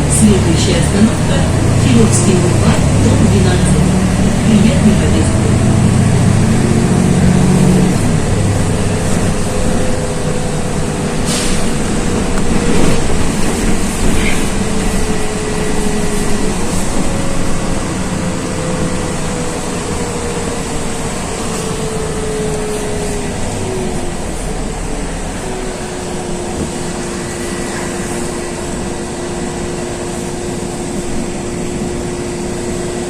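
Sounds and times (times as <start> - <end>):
bus engine and road noise: 0.0 - 33.0.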